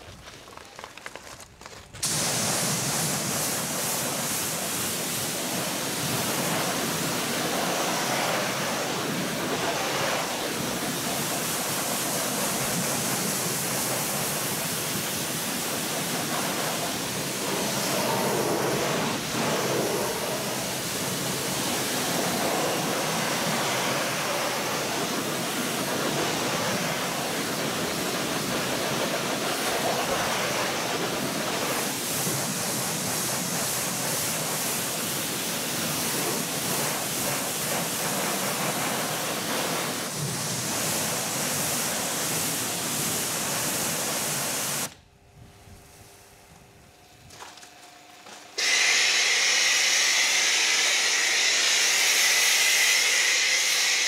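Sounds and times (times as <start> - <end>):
pressure washer spraying: 2.0 - 45.0, 48.6 - 54.0.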